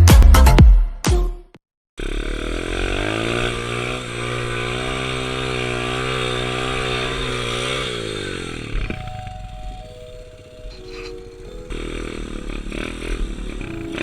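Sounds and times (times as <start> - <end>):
pit bike engine revving: 2.0 - 14.0.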